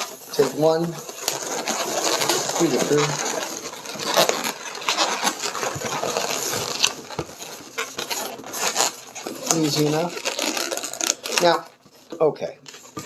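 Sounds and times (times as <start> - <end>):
balloons squeaking and rubbing: 0.0 - 13.0.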